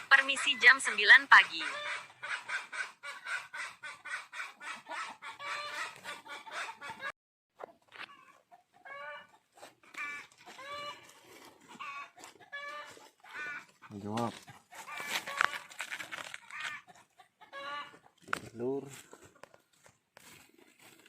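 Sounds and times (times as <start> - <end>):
hen clucking and squawking: 0.0 - 18.4.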